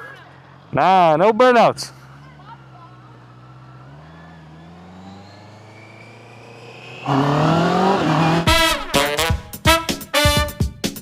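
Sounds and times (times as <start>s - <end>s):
sport bike engine revving: 0.0s - 9.9s.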